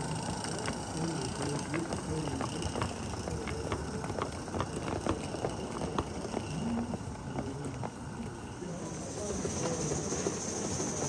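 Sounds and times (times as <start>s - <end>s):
model train wheels clicking: 0.0s - 11.0s.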